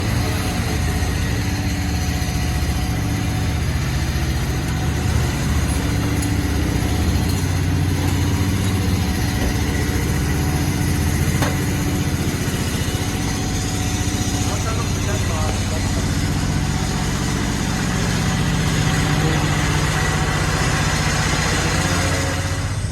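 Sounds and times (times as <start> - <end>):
vehicle engine idling: 0.0 - 22.9.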